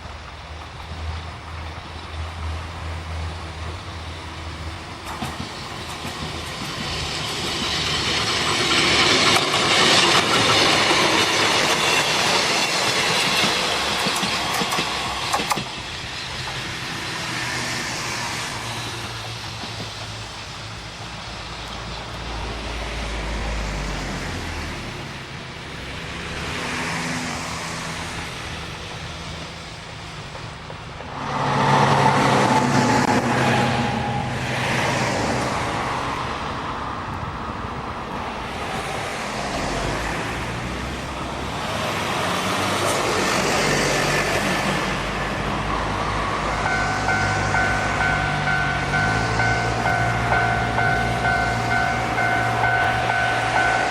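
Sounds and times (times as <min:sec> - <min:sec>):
electric train: 0:00.0 - 0:53.9
road vehicles: 0:00.0 - 0:53.9.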